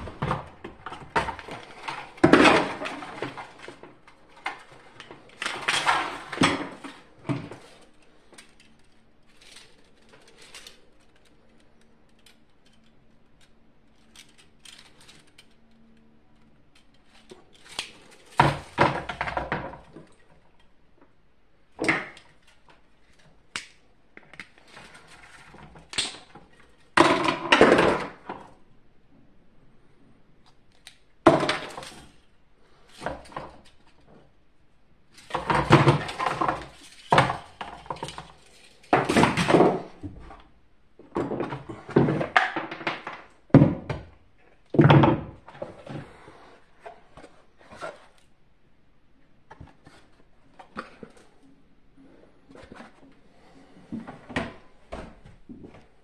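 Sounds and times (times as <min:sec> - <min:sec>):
plastic parts clattering on wooden floor: 0:00.0 - 0:20.7, 0:21.8 - 0:28.6, 0:30.4 - 0:34.3, 0:35.1 - 0:48.3, 0:52.1 - 0:56.0.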